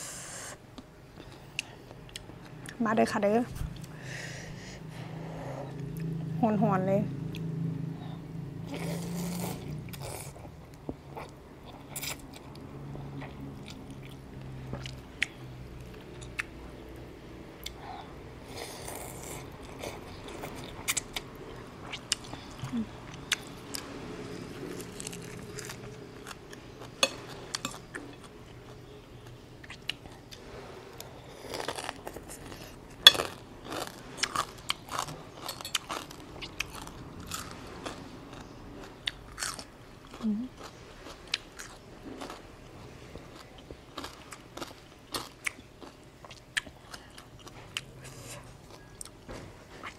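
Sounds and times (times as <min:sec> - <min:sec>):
person chewing soup: 0:00.7 - 0:02.8, 0:08.7 - 0:16.6, 0:17.6 - 0:49.2.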